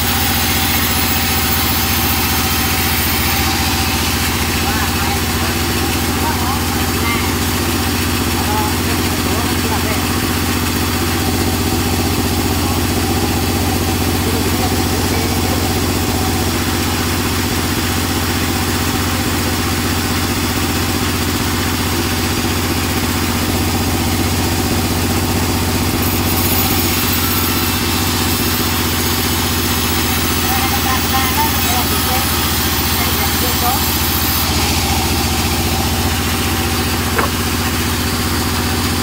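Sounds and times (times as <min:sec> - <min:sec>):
band saw cutting log: 0:00.0 - 0:20.2, 0:24.4 - 0:39.0.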